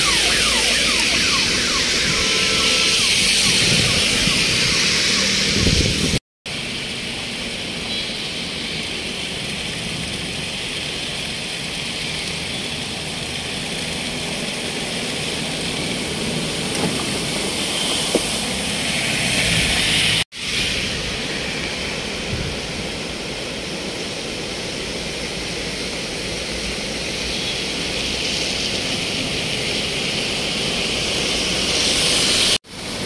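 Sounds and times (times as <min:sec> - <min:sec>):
floodwater rushing: 0:00.0 - 0:33.0
vehicles driving through water: 0:00.0 - 0:33.0.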